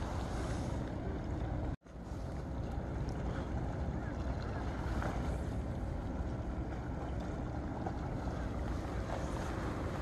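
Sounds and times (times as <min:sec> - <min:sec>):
calm sea: 0:00.0 - 0:10.0
wind rumble on microphone: 0:00.0 - 0:10.0.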